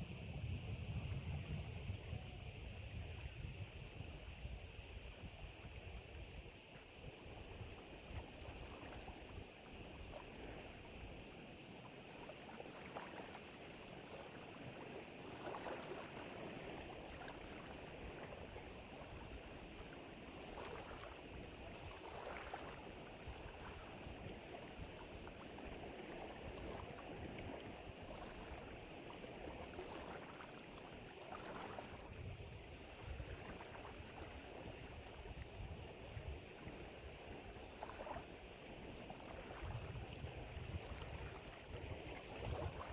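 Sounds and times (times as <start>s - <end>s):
waves lapping at lake edge: 0.0s - 42.9s
wind rumbling on microphone: 0.0s - 42.9s.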